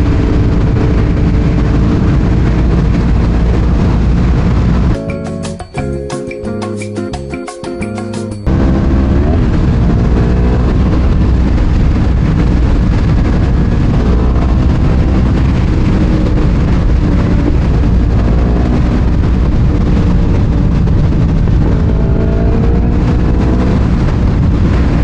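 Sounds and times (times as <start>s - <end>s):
motorcycle engine running: 0.0s - 5.0s, 8.4s - 25.0s.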